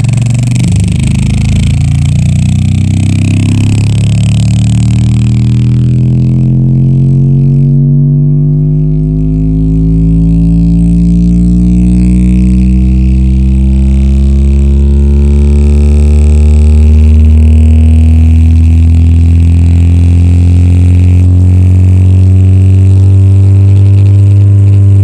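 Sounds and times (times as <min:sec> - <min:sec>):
bass-boosted electronic music: 0:00.0 - 0:25.0.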